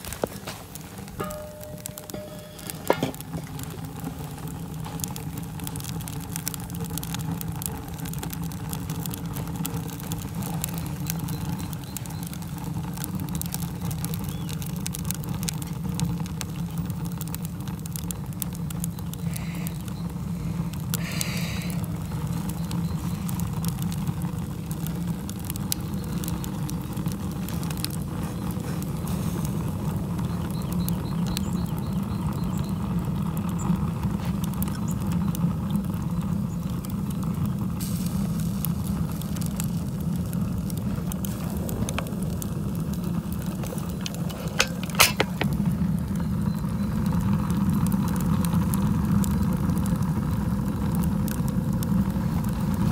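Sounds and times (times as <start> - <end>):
stove draft rushing: 0.0 - 52.9
wood fire crackling and popping: 0.0 - 52.9.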